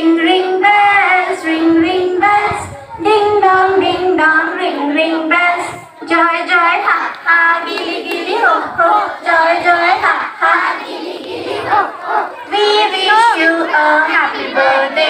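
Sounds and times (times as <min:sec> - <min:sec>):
children and woman singing: 0:00.0 - 0:15.0.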